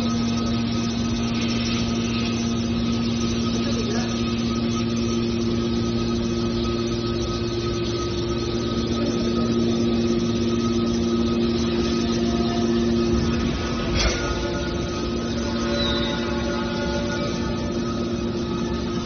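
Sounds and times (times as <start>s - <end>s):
hydraulic baler humming: 0.0s - 19.0s.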